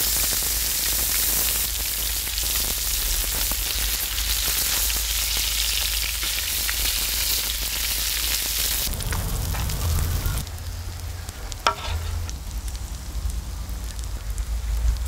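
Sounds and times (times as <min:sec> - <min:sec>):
patties sizzling on griddle: 0:00.0 - 0:15.0.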